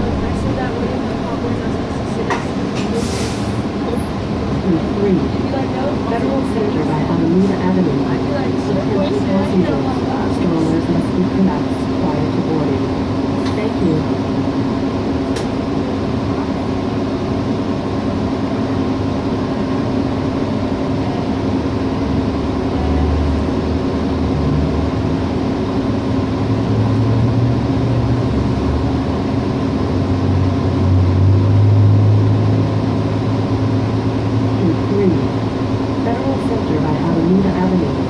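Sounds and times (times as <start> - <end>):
bus engine drone: 0.0 - 38.0
road noise: 0.0 - 38.0.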